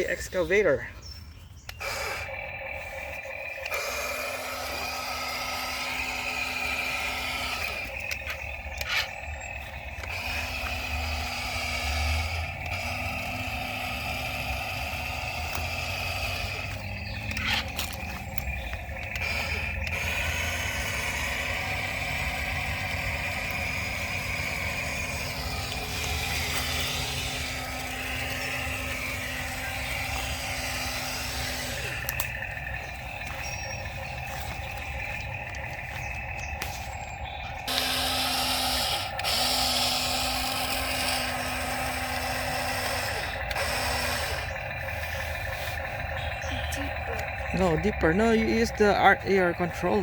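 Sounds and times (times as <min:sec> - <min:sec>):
toy excavator electric motors whirring: 0:00.0 - 0:50.0.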